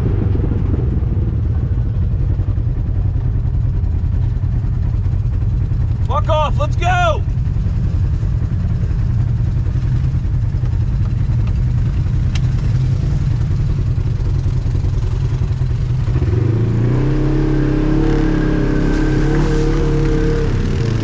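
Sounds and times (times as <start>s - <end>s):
off-road vehicle engine running: 0.0s - 21.0s.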